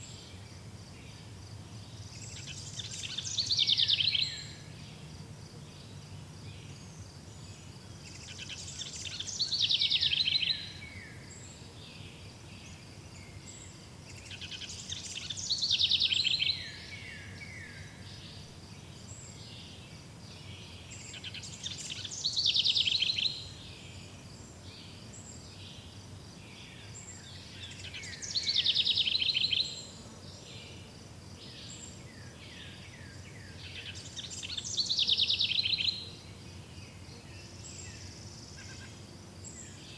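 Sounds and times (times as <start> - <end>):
low forest background: 0.0 - 39.9
songbird singing: 0.0 - 39.9.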